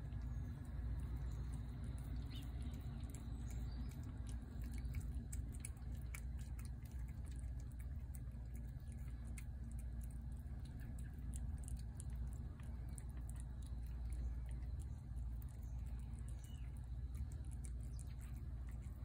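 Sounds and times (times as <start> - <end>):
cat chewing and licking: 0.0 - 19.0
low steady rumble: 0.0 - 19.0.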